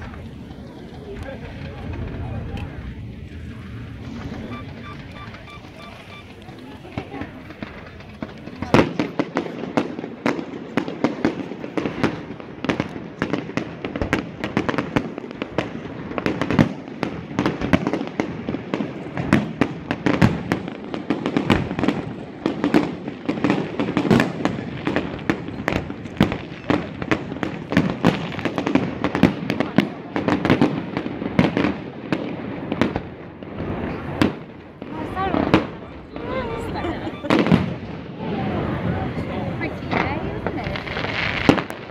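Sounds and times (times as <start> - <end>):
fireworks bursting and crackling: 0.0 - 41.9.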